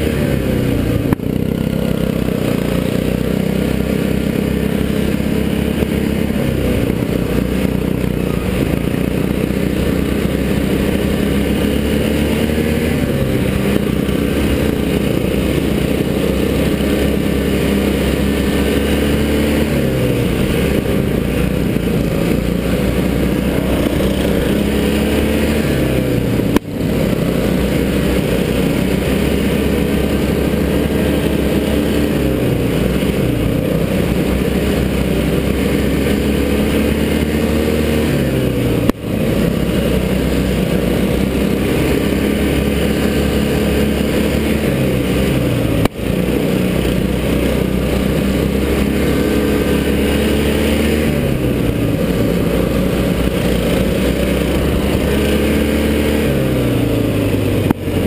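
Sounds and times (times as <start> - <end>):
lawn mower engine revving: 0.0 - 58.0.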